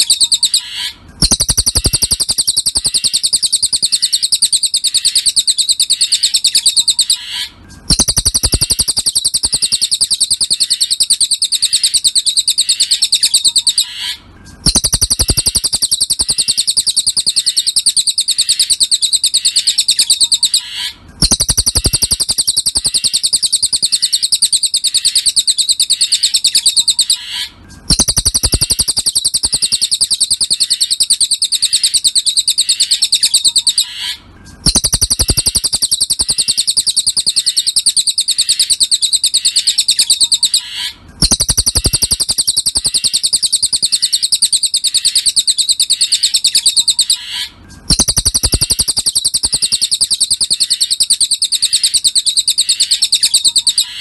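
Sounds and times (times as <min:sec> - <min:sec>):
bird trilling: 0:00.0 - 0:54.0.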